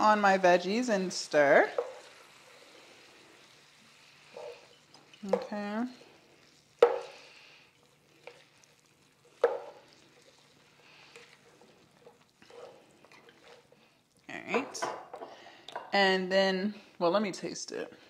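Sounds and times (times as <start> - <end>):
vegetables sizzling in a skillet: 0.0 - 15.6.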